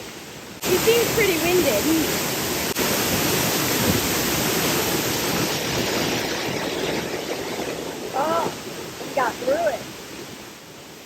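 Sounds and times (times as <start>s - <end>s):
waterfall crashing into pool: 0.0s - 11.0s.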